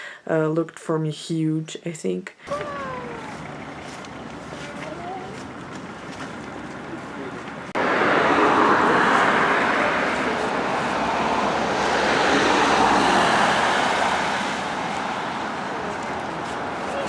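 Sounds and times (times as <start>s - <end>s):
road traffic passing close: 2.4s - 17.0s.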